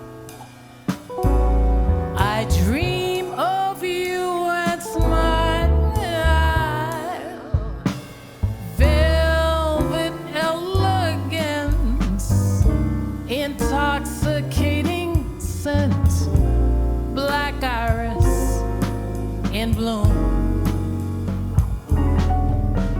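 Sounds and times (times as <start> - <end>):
jazz band playing a slow ballad: 0.0 - 22.9
woman singing: 2.1 - 21.4.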